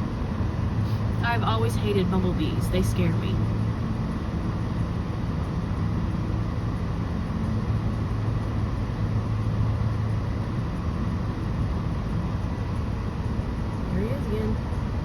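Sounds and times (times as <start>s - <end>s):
car engine idling hum: 0.0s - 15.0s.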